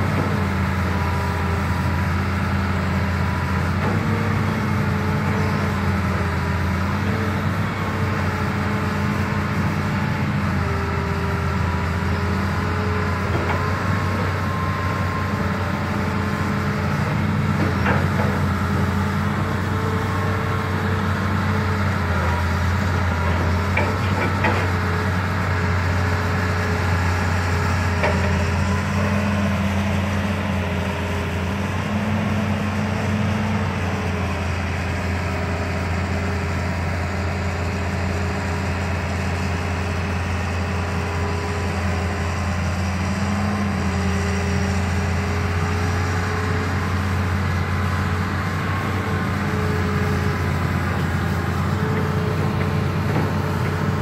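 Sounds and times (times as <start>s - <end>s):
diesel engine under hydraulic load: 0.0s - 54.0s.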